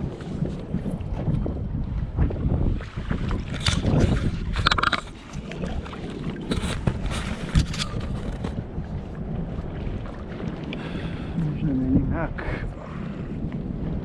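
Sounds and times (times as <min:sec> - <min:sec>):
splashing and handling noise: 0:00.0 - 0:11.7
sea wash: 0:00.0 - 0:14.0
wind buffeting microphone: 0:00.0 - 0:14.0.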